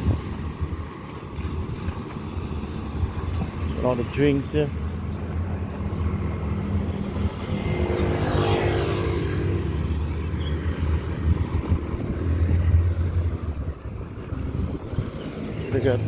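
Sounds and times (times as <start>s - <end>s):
low traffic rumble: 0.0s - 16.0s
vehicle passing close by: 0.0s - 16.0s.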